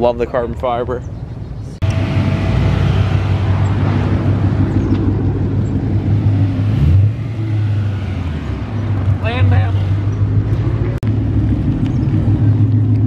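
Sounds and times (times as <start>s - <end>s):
car engine running: 1.8s - 13.0s.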